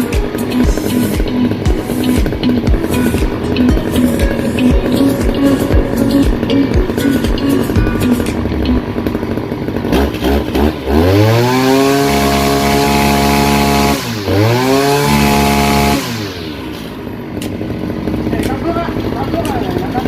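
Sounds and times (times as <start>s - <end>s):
brush cutter engine revving: 0.0s - 20.0s.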